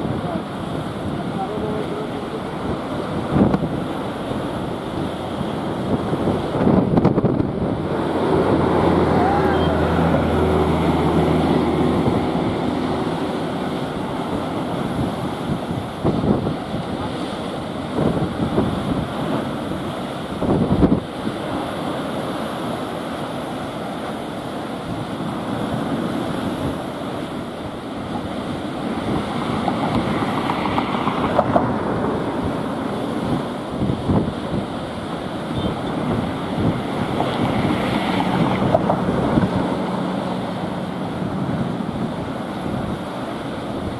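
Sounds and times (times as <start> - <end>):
rough sea waves breaking: 0.0 - 43.9
wind buffeting microphone: 0.0 - 43.9.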